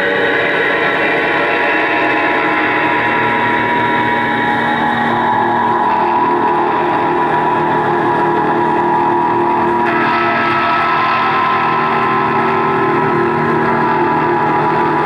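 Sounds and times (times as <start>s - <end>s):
band playing sustained drone: 0.0s - 15.0s.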